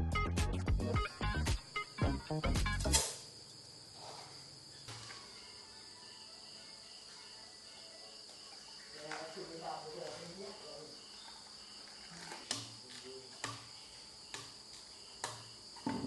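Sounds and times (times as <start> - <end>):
crickets chirring: 0.8 - 16.0.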